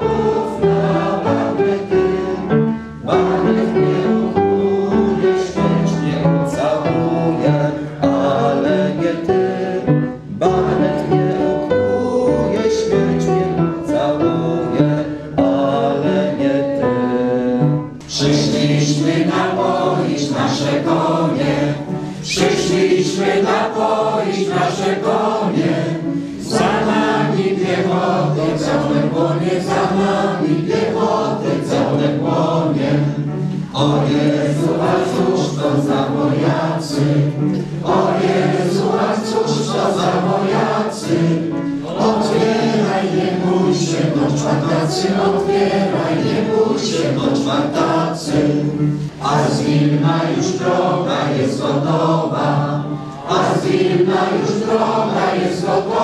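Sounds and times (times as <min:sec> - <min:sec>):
crowd singing together: 0:00.0 - 0:56.0
piano accompaniment: 0:00.0 - 0:56.0.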